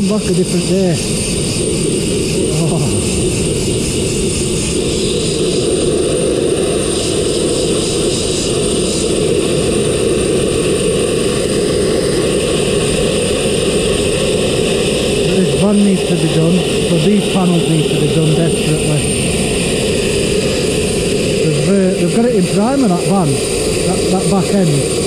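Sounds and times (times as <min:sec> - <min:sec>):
air compressor drone: 0:00.0 - 0:25.0.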